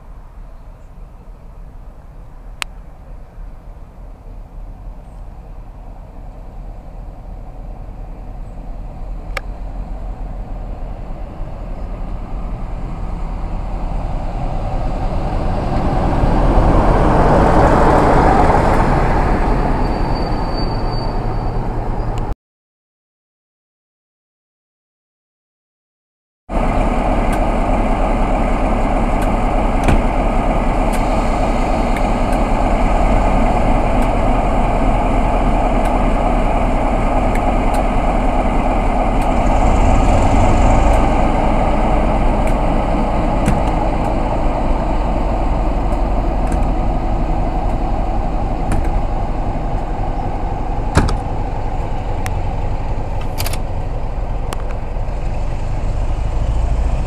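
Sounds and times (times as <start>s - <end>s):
diesel locomotive engine running: 0.0s - 22.3s, 26.5s - 57.0s.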